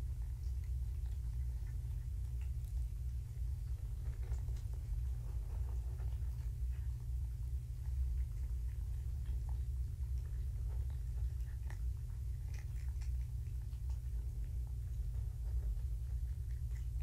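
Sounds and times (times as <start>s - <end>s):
kittens clicking and rustling: 0.0s - 17.0s
steady low hum: 0.0s - 17.0s.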